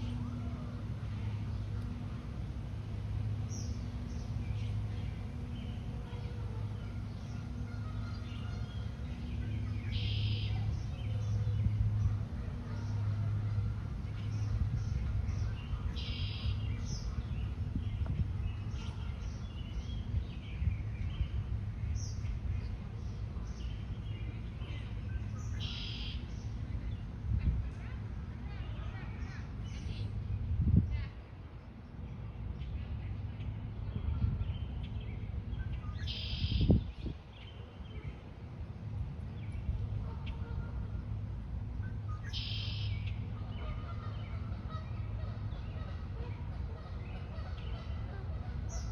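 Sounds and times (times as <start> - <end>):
low background rumble: 0.0 - 48.9
small birds chirping: 0.0 - 48.9.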